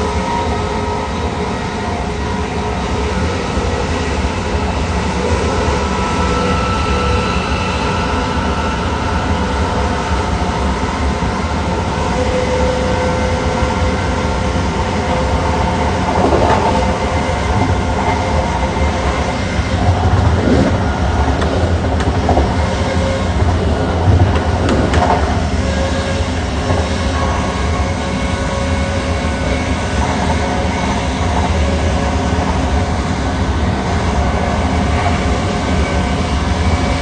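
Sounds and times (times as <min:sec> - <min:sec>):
wheels rumbling on rail: 0:00.0 - 0:37.0
traction motor whine: 0:00.2 - 0:37.0.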